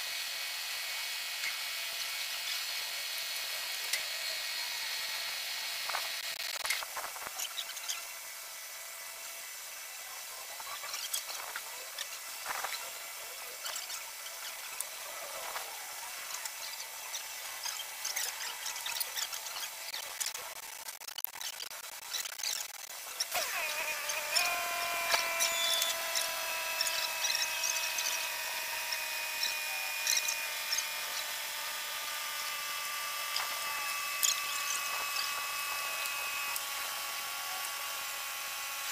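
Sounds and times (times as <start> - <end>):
motor whining: 0.0 - 20.8, 21.9 - 38.9.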